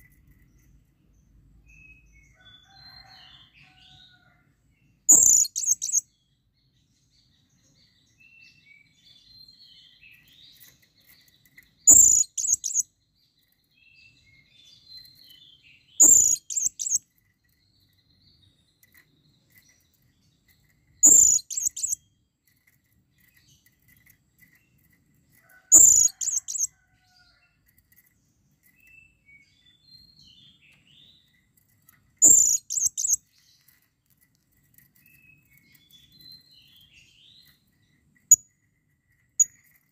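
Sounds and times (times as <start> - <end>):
faint small chirps: 5.1 - 39.9.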